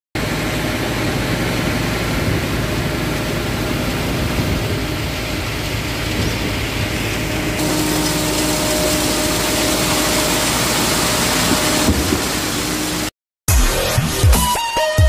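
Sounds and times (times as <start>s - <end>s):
diesel truck engine rumbling: 0.2s - 13.1s.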